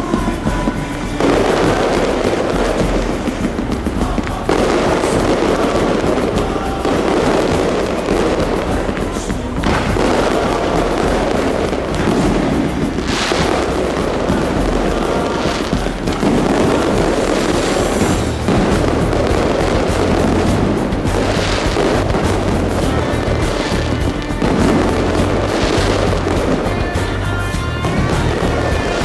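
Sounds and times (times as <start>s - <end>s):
fireworks bursts: 0.0s - 29.0s
fireworks crackling and popping: 0.0s - 29.0s.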